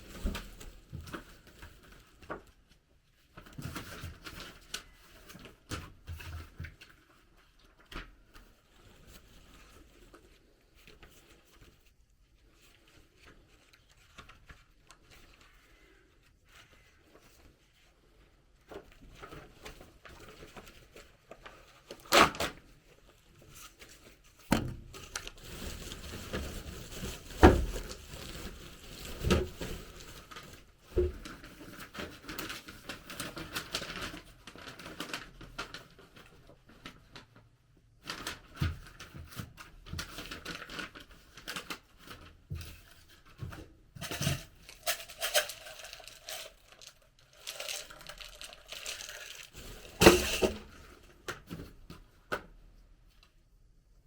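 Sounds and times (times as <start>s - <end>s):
rustling and crinkling handling: 0.0s - 54.0s.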